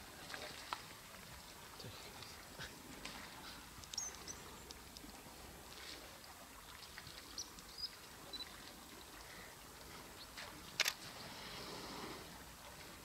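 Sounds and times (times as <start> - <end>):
low steady background hiss: 0.0 - 13.0.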